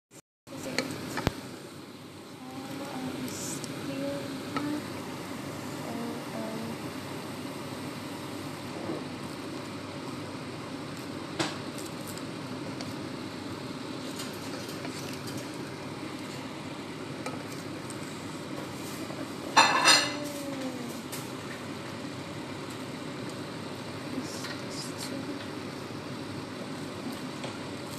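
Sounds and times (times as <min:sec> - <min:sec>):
vegetables frying hiss: 0:00.6 - 0:27.9.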